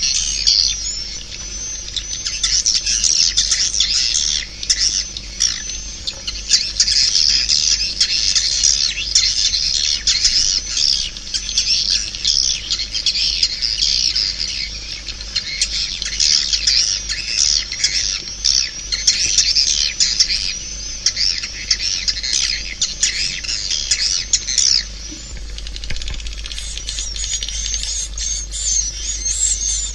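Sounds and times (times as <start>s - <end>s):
swiftlets twittering chirps: 0.0s - 29.9s.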